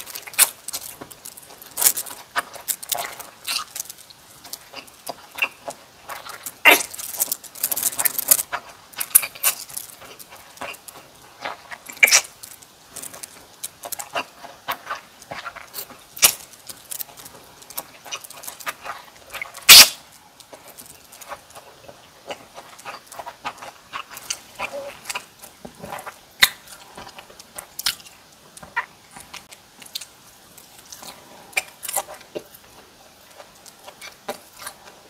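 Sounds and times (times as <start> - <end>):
crunching food: 0.0 - 35.0
wet chewing: 0.0 - 35.0.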